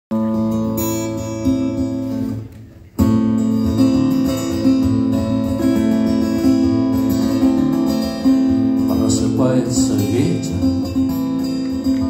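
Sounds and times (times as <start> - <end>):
acoustic guitar strumming: 0.1 - 12.0.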